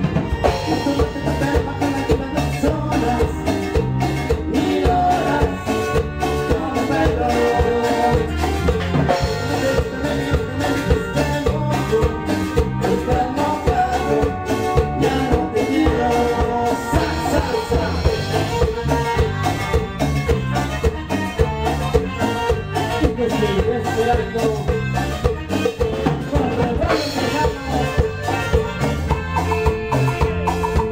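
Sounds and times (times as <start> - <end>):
latin band music with drums: 0.0 - 30.9.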